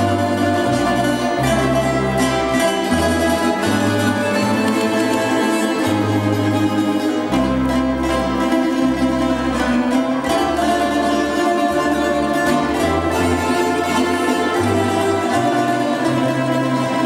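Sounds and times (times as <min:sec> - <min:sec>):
plucked string orchestra playing: 0:00.0 - 0:17.0.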